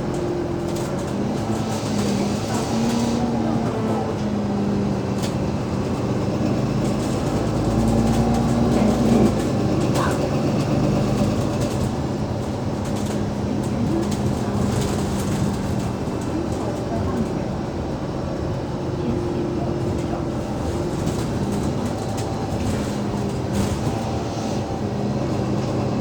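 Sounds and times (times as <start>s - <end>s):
light rattles and clicks: 0.0s - 4.3s, 5.0s - 17.6s, 19.7s - 24.3s
bus diesel engine running: 0.0s - 26.0s.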